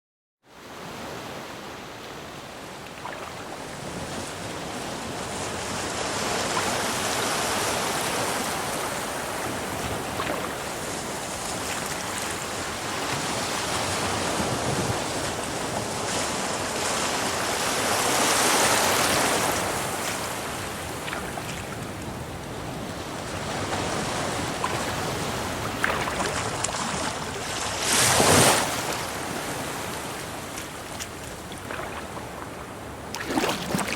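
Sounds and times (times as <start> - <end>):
ocean waves breaking: 2.2 - 33.9.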